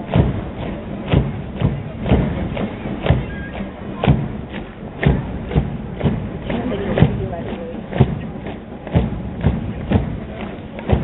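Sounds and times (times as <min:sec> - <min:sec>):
boots marching on asphalt: 0:00.0 - 0:11.0.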